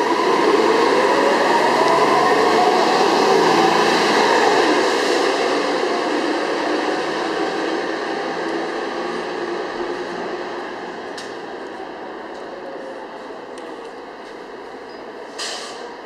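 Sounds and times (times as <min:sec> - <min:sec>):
bus pulling away: 0:00.0 - 0:16.0.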